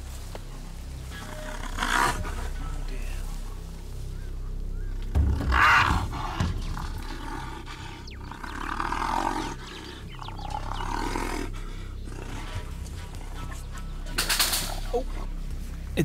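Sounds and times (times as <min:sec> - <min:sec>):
hyena growling and snarling: 0:01.0 - 0:15.4.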